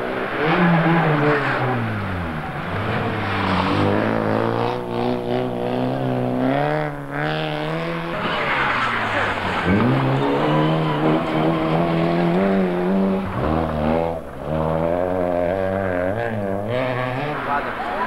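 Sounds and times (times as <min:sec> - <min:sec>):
rally car engine approaching: 0:00.0 - 0:18.0
rally car engine passing: 0:00.0 - 0:18.0.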